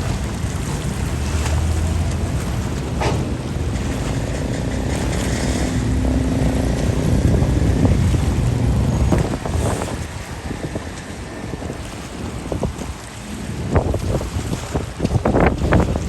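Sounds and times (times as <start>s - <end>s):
ferry engine running: 0.0s - 16.0s
water rushing: 0.0s - 16.0s
wind on microphone: 0.0s - 16.0s.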